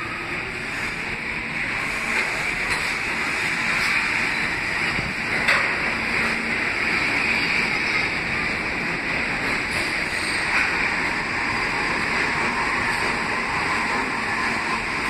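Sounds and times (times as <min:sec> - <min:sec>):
subway train rushing past: 0:00.0 - 0:15.0.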